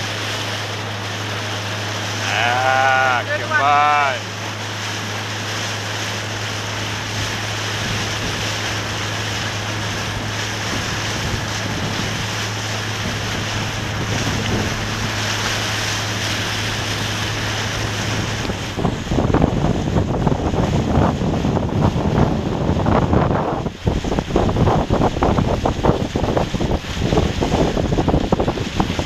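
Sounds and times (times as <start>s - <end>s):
wind and water: 0.0s - 29.0s
wind buffeting microphone: 4.0s - 29.0s.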